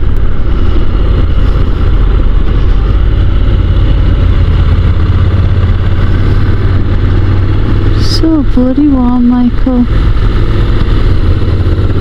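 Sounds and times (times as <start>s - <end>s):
motorcycle engine running: 0.0s - 12.0s
rush of riding noise: 0.0s - 12.0s.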